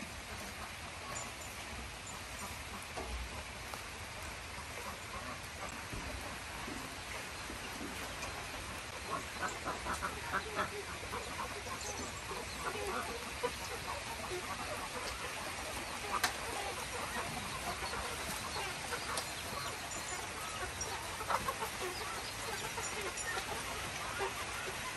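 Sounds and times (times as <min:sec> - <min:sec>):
chickens clucking: 0:00.0 - 0:24.9
steady background hiss: 0:00.0 - 0:24.9.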